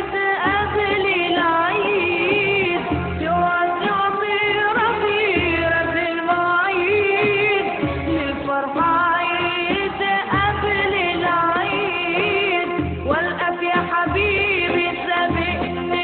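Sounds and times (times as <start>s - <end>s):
low instrumental accompaniment: 0.0s - 16.0s.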